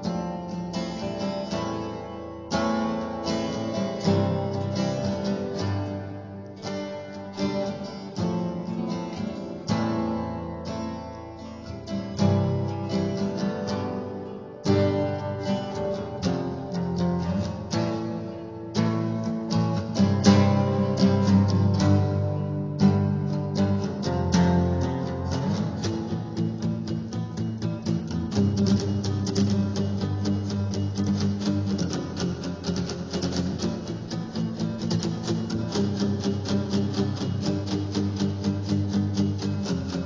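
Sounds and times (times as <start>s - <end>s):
acoustic guitar strumming chords: 0.0s - 40.0s.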